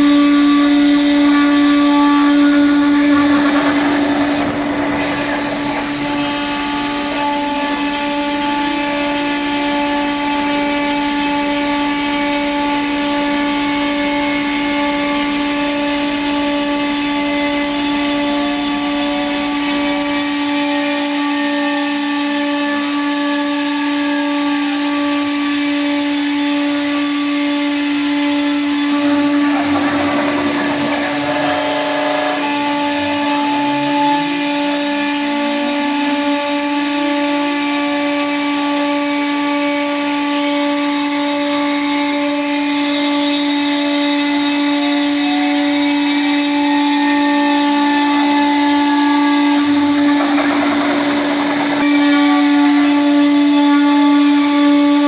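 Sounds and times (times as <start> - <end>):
cnc router whine: 0.0 - 55.0.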